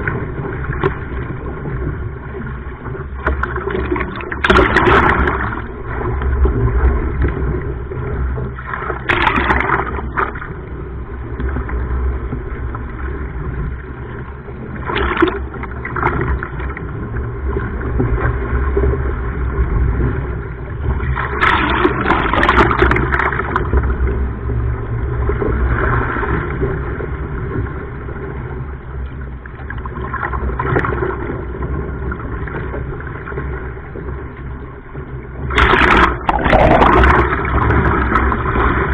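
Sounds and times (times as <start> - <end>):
water sloshing and splashing: 0.0 - 38.9
wind rumble on microphone: 0.0 - 38.9.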